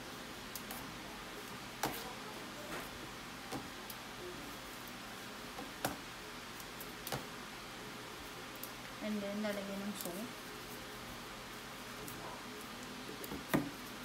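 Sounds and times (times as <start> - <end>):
room hiss: 0.0 - 14.0.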